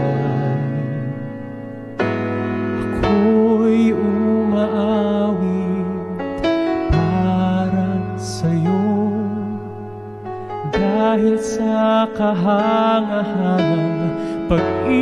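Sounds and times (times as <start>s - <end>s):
man singing into a microphone: 0.0s - 1.9s, 2.8s - 9.9s, 10.5s - 15.0s
instrumental accompaniment: 0.0s - 15.0s.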